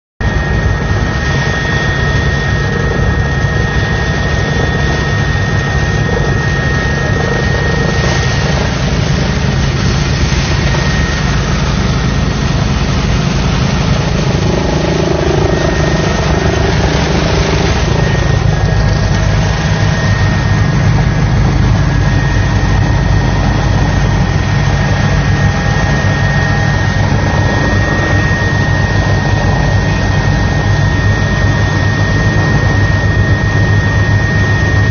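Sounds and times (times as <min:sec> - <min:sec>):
helicopter engine and rotor drone: 0:00.2 - 0:34.9
high whine: 0:00.2 - 0:34.9.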